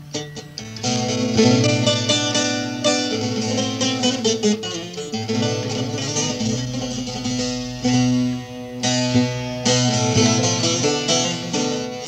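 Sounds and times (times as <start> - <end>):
plucked long-necked lute: 0.0 - 12.0.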